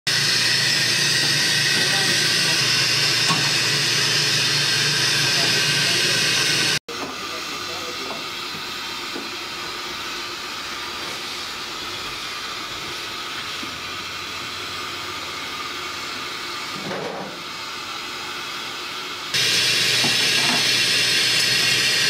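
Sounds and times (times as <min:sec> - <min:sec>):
steam hissing from a steamer: 0:00.1 - 0:22.0.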